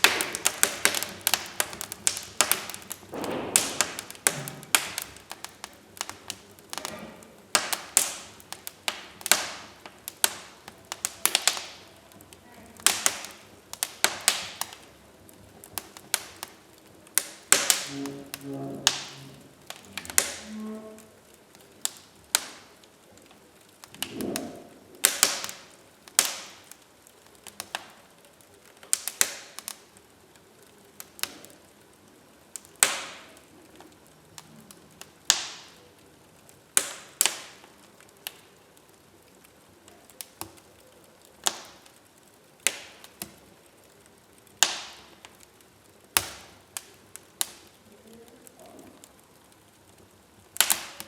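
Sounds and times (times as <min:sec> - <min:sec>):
fire hiss: 0:00.0 - 0:51.0
wood fire crackling: 0:00.0 - 0:51.0.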